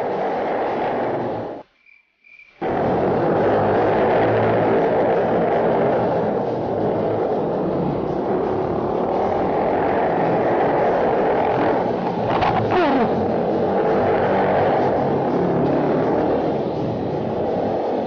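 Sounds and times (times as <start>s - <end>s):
motorbike engine revving: 0.0s - 1.6s, 2.6s - 18.0s.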